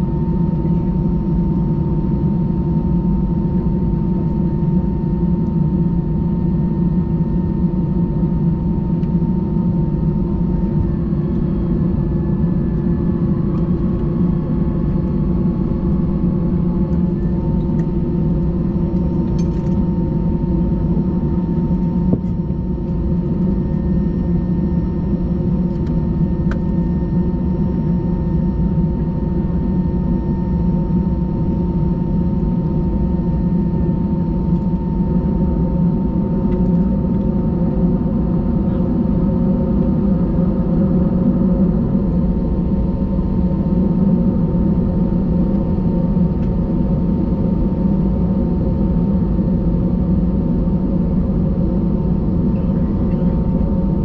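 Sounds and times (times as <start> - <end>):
aircraft cabin engine rumble: 0.0 - 54.0.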